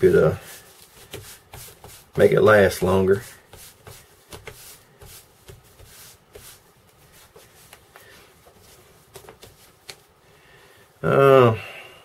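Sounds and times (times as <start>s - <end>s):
cloth rubbing leather: 0.0s - 10.0s.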